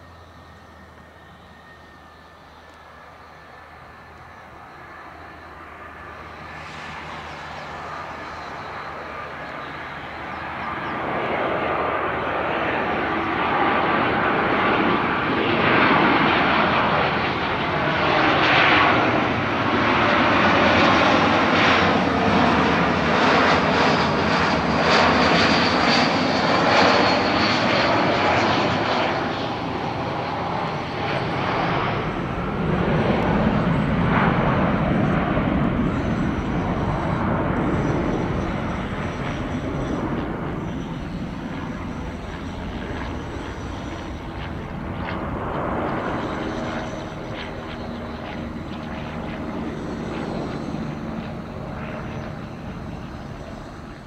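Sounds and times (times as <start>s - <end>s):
jet airliner flying over: 0.0s - 54.0s.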